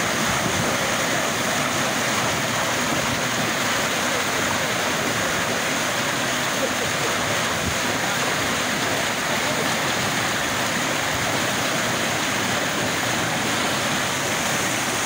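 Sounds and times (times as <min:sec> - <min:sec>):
water rushing into channel: 0:00.0 - 0:15.0.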